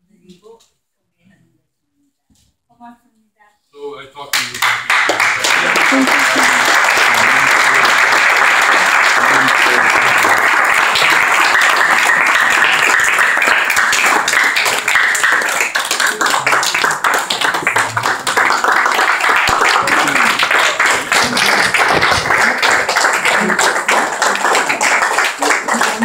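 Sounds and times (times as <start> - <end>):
audience applauding: 4.3 - 26.0.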